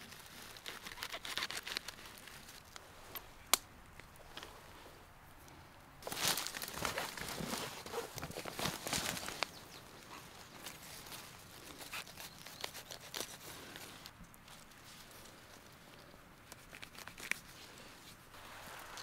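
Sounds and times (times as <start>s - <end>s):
rustling in dry leaves and twigs: 0.0s - 19.0s.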